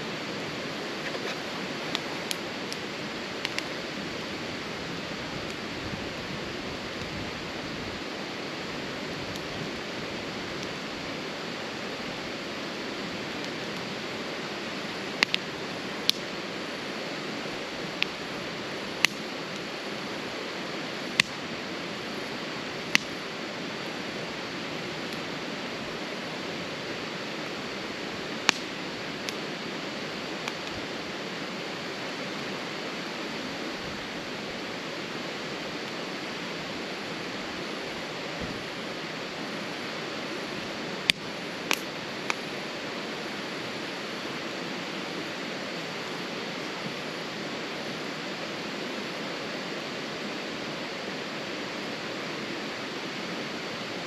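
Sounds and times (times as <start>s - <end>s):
steady fire hiss: 0.0s - 54.0s
fire crackling and popping: 0.1s - 48.7s.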